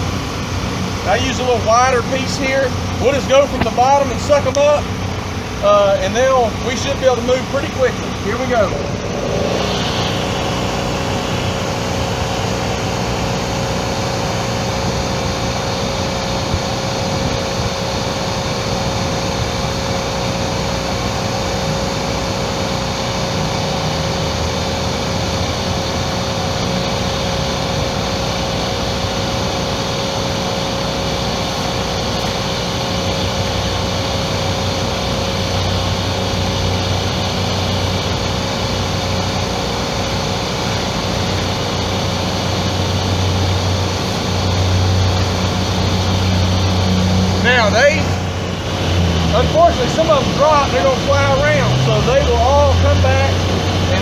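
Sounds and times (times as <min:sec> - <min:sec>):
shop vacuum running: 0:00.0 - 0:54.0.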